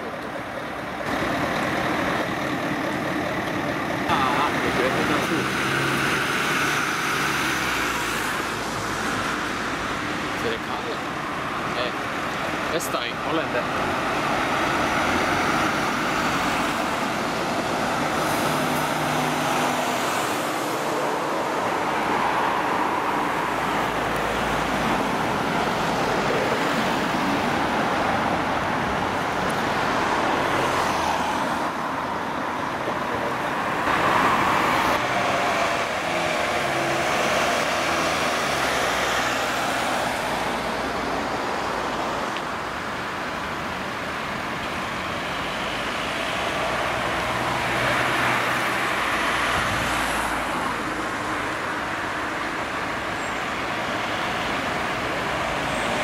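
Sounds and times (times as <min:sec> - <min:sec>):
engine and tyre noise: 0:00.0 - 0:56.0
trucks passing close: 0:00.0 - 0:56.0.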